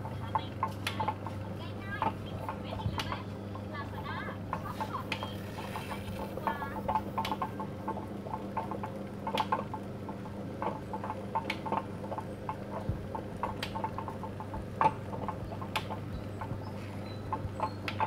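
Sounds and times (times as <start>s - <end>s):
potter's wheel humming: 0.0s - 18.0s.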